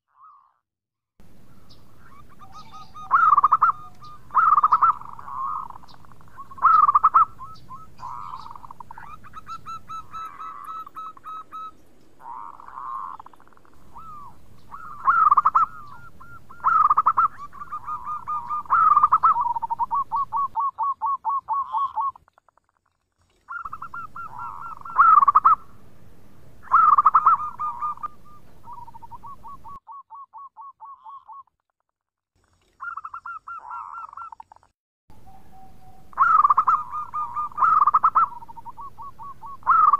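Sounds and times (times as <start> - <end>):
dove cooing: 1.4 - 22.2, 23.3 - 25.8, 26.6 - 31.4, 32.6 - 34.5, 35.1 - 39.9.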